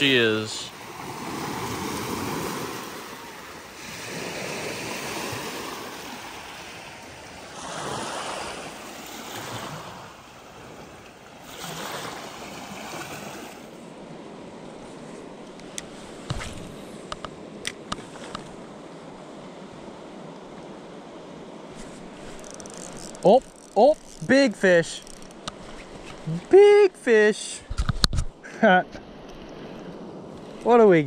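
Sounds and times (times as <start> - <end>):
waves washing onto shore: 0.0 - 28.4.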